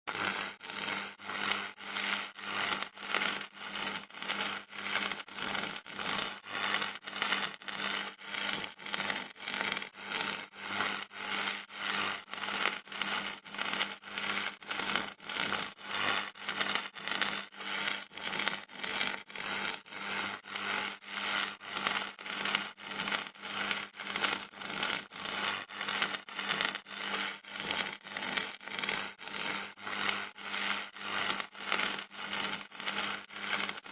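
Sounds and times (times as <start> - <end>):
pulsing electric buzz: 0.1 - 21.8, 22.4 - 33.8.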